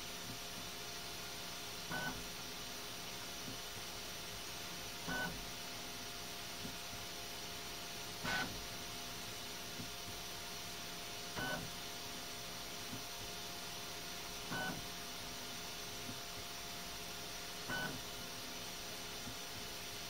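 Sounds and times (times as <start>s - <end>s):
steady fan hum: 0.0s - 20.0s.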